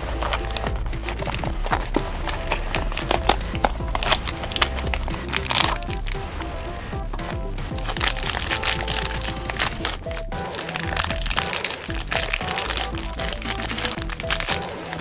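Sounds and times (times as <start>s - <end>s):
foil bag crinkling: 0.0s - 7.2s, 7.8s - 15.0s
light background music: 0.0s - 15.0s.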